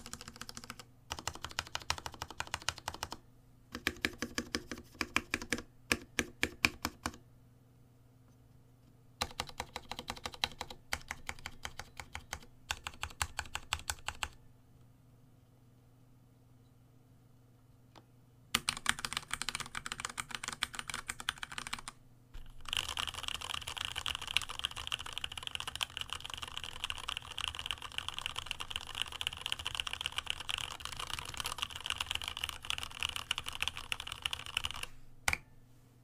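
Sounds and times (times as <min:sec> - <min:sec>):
mechanical keyboard typing: 0:00.0 - 0:07.2, 0:09.2 - 0:14.4, 0:18.5 - 0:35.4.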